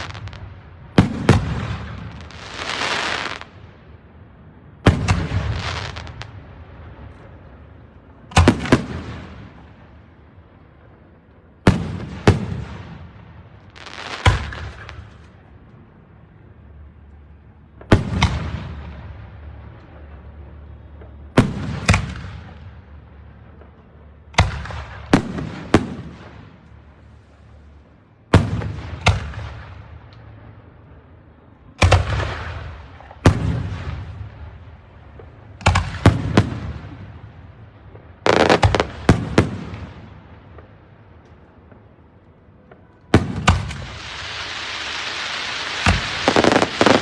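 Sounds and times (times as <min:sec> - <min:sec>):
fireworks bursting with echo: 0:00.0 - 0:47.0.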